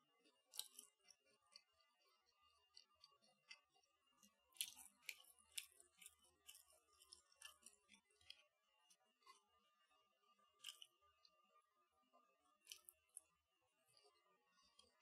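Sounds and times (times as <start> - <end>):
crackles of crumb crust: 0.0 - 11.4, 12.5 - 15.0.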